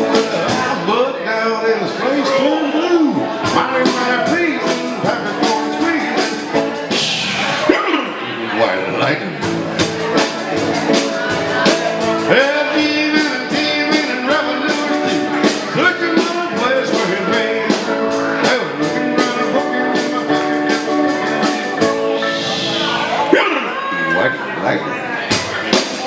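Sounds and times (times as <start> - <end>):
country band playing: 0.0 - 26.0.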